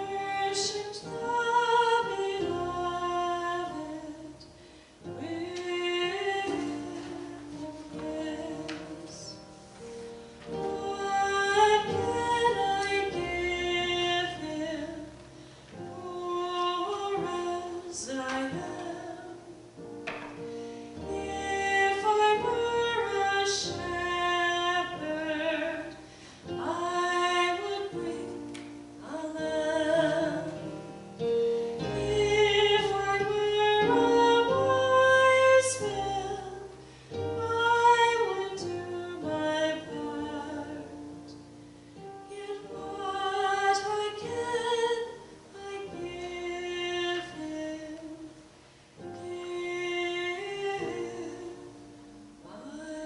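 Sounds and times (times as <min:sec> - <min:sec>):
woman singing a hymn: 0:00.0 - 0:53.0.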